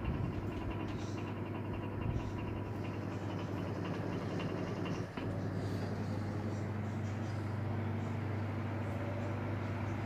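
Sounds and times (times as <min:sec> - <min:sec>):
air rushing from fan blades: 0:00.0 - 0:10.0
electric fan motor hum: 0:00.0 - 0:10.0.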